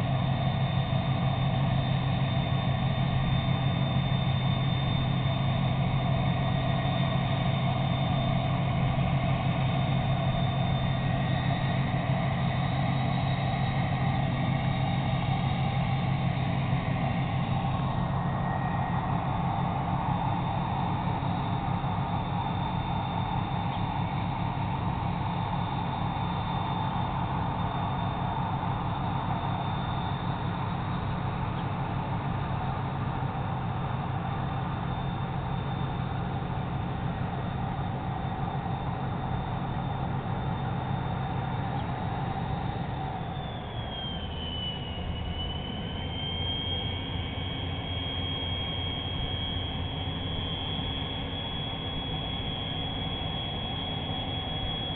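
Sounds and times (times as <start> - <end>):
diesel engines rumbling: 0.0 - 54.9
steady high whine: 0.0 - 54.9.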